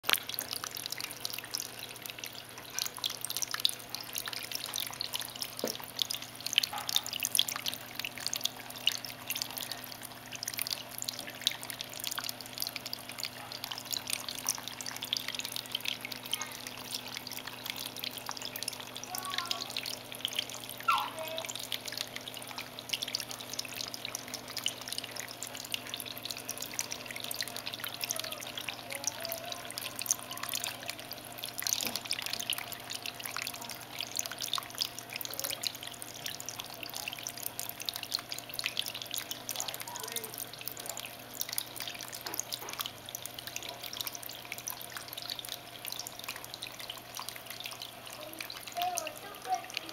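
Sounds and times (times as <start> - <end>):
water trickling and dripping: 0.0 - 49.9.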